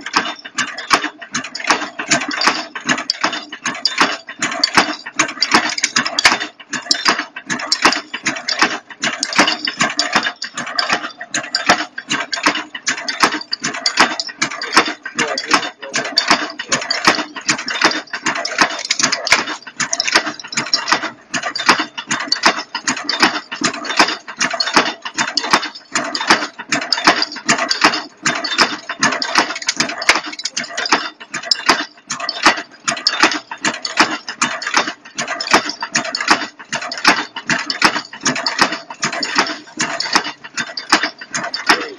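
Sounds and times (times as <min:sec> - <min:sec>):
wire forming machine clattering: 0:00.0 - 0:41.9.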